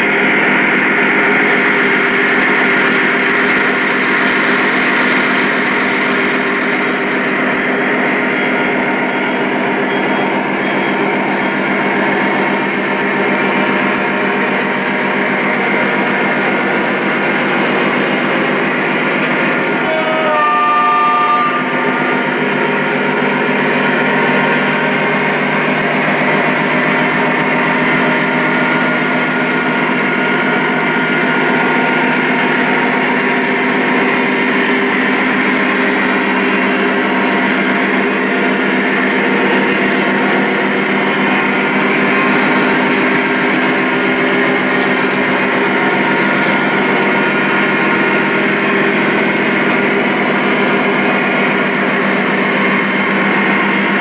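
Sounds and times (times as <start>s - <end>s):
droning diesel engine sound: 0.0s - 54.0s
model train wheels rolling: 0.0s - 54.0s.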